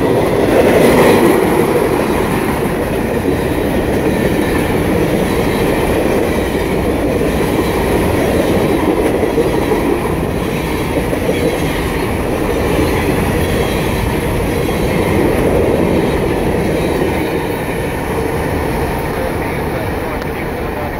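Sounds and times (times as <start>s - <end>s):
freight train rolling past: 0.0s - 20.9s
steel wheels rattling on rails: 0.0s - 20.9s.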